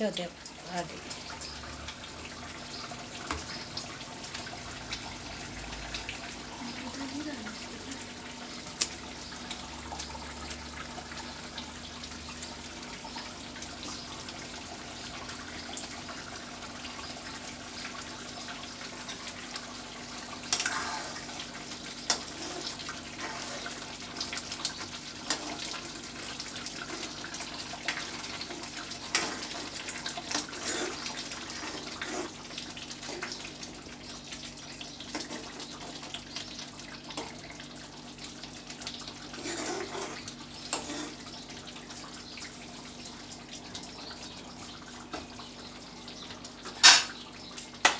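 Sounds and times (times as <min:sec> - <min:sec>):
curry bubbling and hissing: 0:02.0 - 0:43.0.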